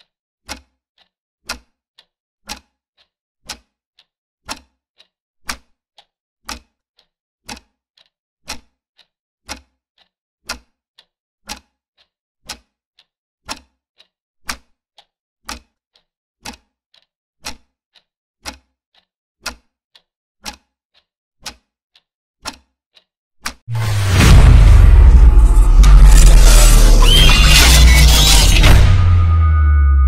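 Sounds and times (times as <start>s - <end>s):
clock ticking: 0.0s - 29.0s.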